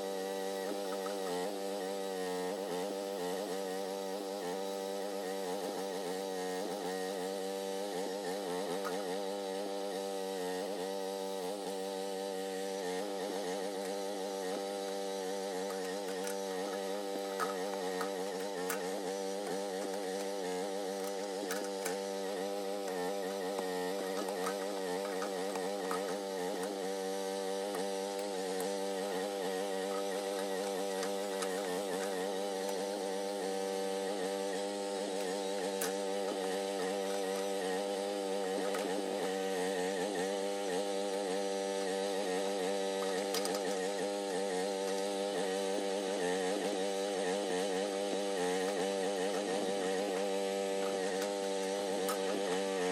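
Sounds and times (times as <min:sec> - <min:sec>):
mini excavator engine running: 0:00.0 - 0:52.9.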